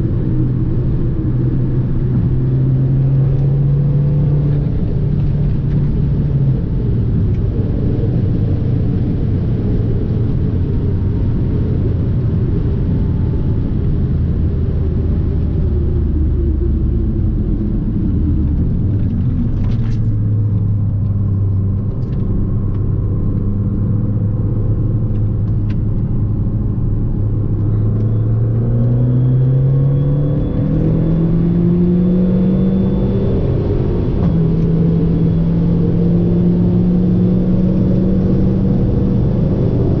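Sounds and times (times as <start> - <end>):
car engine running: 0.0 - 40.0
road noise: 0.0 - 40.0.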